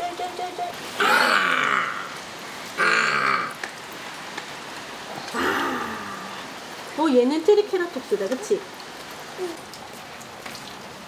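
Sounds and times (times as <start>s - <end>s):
water trickling from hose: 0.0s - 11.0s.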